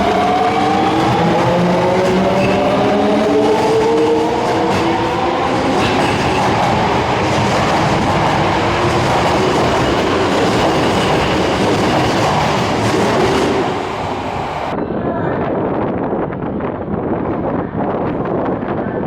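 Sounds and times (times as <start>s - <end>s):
subway train wheels rumbling: 0.0s - 19.0s.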